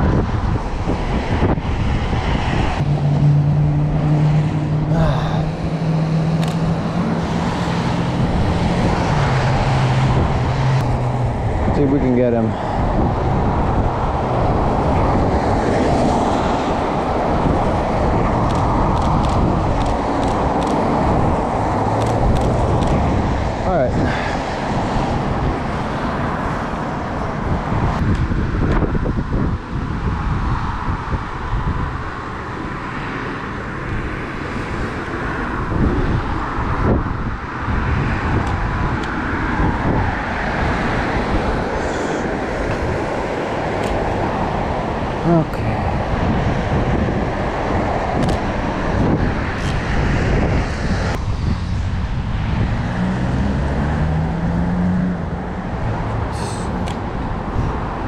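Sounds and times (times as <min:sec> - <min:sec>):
cars passing on wet road: 0:00.0 - 0:58.0.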